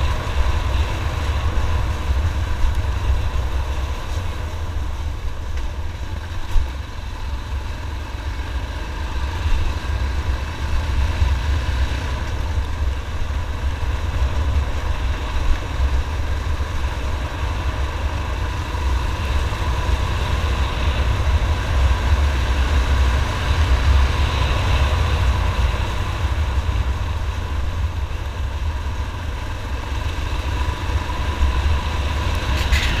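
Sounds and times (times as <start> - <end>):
motorcycle engine running: 0.0 - 33.0
wind rumble on microphone: 0.0 - 33.0.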